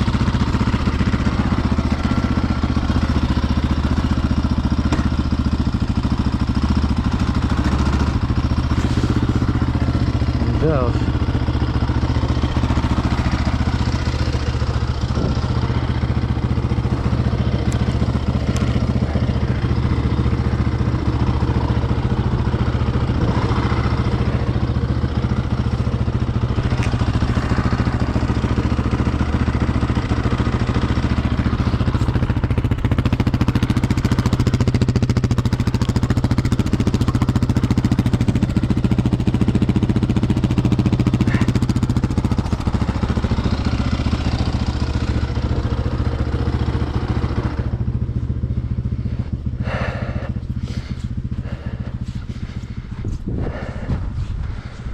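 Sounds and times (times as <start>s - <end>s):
atv engine running: 0.0s - 54.9s.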